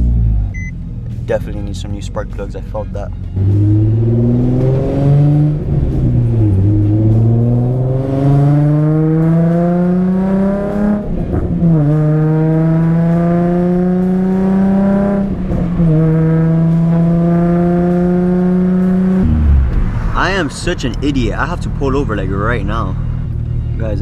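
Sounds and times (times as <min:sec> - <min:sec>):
car engine accelerating hard: 0:00.0 - 0:02.1, 0:03.2 - 0:23.8.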